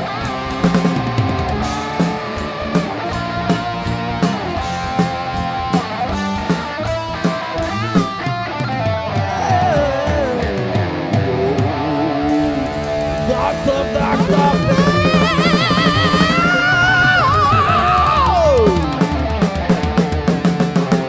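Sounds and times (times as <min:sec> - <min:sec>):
electric guitar solo: 0:00.0 - 0:20.8
drums: 0:00.0 - 0:21.0.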